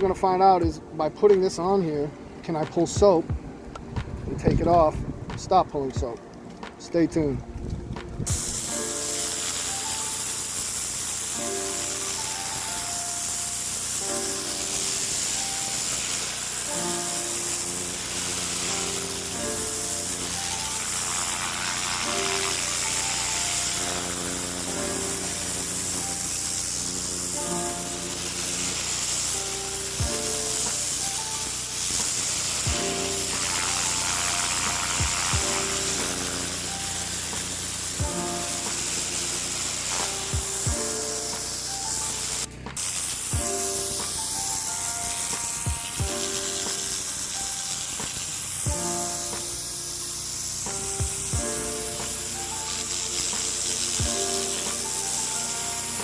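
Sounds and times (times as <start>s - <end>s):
background music with melody: 0.0s - 56.0s
pressure washer spray hissing: 8.2s - 56.0s.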